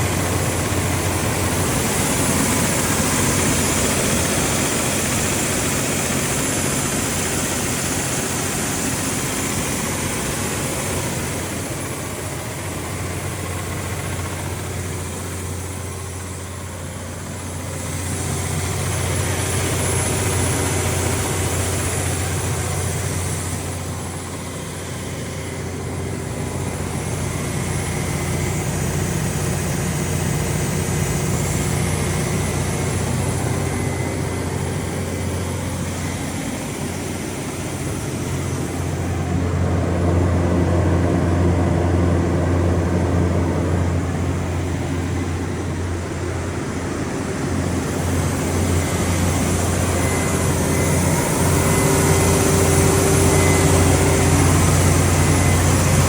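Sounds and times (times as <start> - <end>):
diesel generator running: 0.0 - 56.0.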